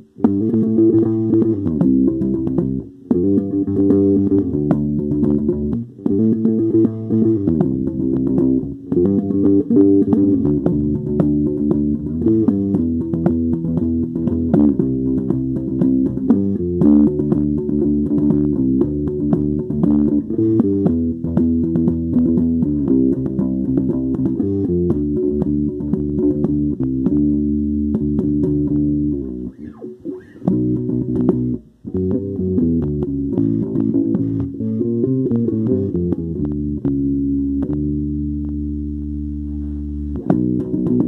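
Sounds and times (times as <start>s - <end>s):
electric bass guitar playing: 0.0s - 41.0s.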